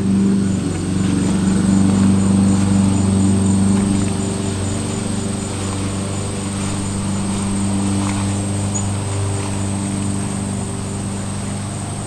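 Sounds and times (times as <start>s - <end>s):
window air conditioner humming: 0.0s - 12.0s.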